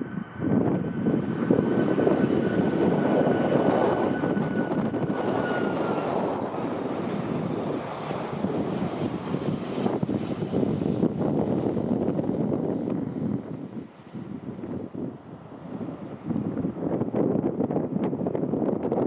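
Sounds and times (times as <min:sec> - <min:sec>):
high engine whine: 0:00.0 - 0:18.7
jet engines roaring: 0:00.0 - 0:19.0.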